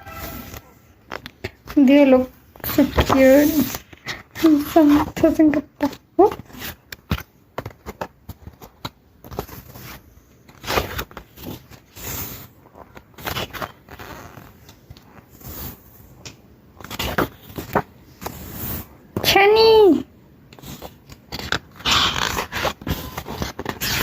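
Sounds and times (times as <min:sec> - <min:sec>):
paper and plastic rustling: 0:00.0 - 0:16.1, 0:20.6 - 0:24.0.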